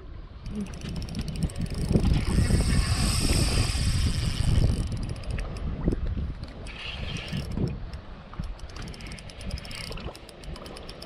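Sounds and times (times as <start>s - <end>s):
wind rumble: 0.0s - 11.0s
fishing reel clicking: 0.4s - 5.7s, 6.4s - 11.0s.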